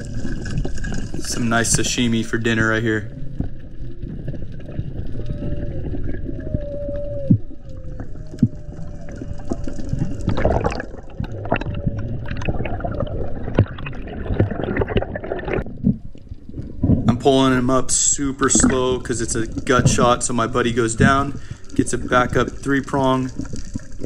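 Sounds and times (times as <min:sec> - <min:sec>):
underwater rush of water: 0:00.0 - 0:24.0.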